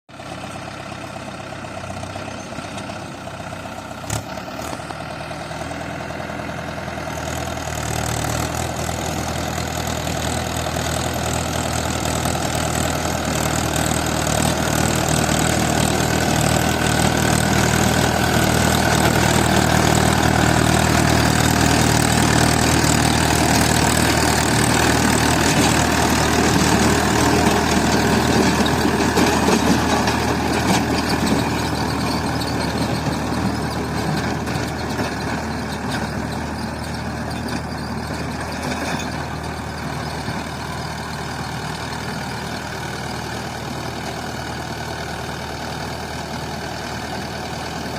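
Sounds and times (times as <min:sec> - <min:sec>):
tractor diesel engine running: 0:00.1 - 0:47.9.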